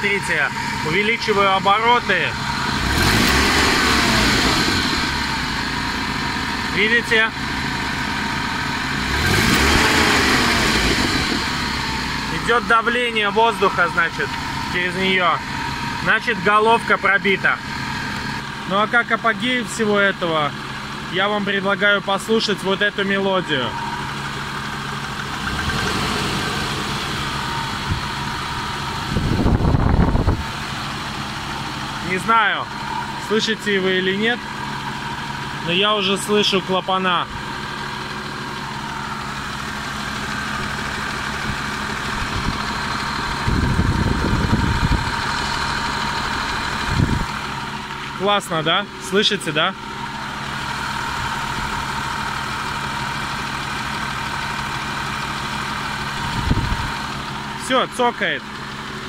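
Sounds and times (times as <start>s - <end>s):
petrol engine idling: 0.0s - 59.0s.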